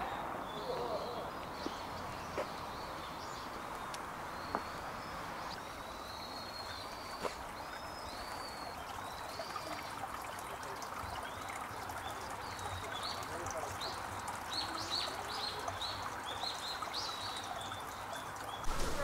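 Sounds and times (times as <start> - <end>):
running water trickling: 0.4 - 19.0.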